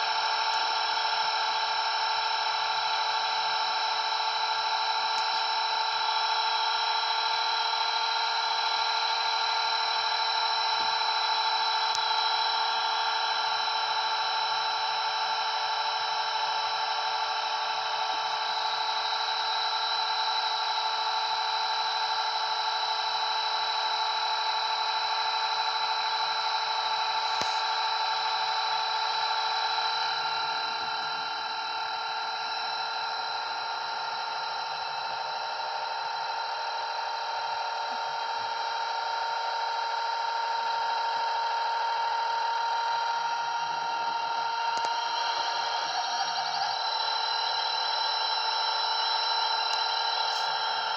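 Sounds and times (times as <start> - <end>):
rc helicopter whine: 0.0 - 50.9.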